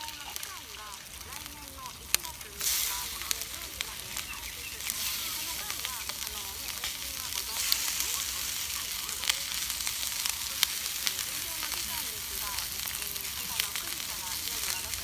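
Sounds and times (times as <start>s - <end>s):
chicken sizzling in frying pan: 0.0s - 15.0s
sharp popping of frying oil: 0.0s - 15.0s.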